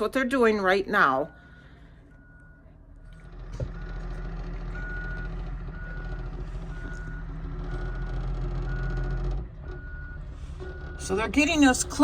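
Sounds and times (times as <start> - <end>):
diesel engine running: 0.0 - 12.0
truck backup alarm beeping: 0.1 - 12.0.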